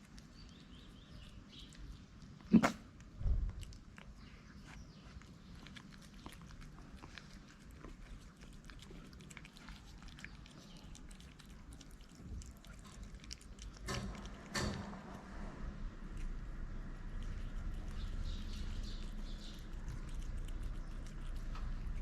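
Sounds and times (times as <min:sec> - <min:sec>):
cats chewing and crunching food: 0:00.0 - 0:22.0.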